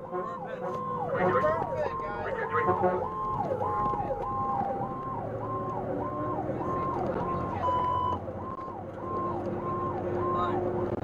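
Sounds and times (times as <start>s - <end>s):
fire truck siren yelp: 0.0s - 11.0s
truck engine running: 0.0s - 11.0s
second siren tone falling: 0.2s - 10.6s.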